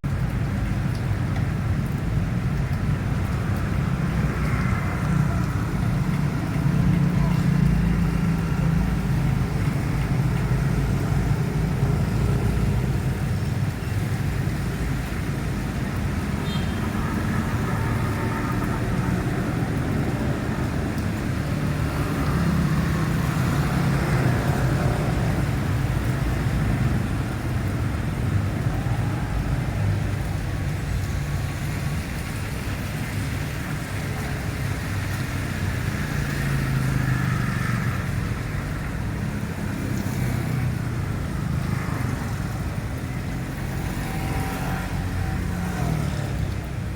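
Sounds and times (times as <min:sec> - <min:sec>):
road traffic engines and tyres: 0:00.0 - 0:46.9.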